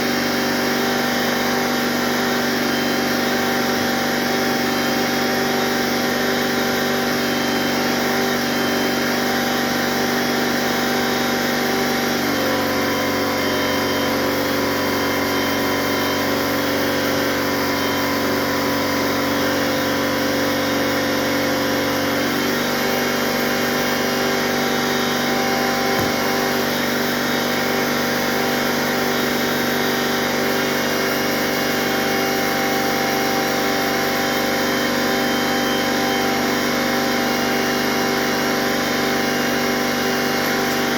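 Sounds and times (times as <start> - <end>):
power tool whining: 0.0 - 40.9.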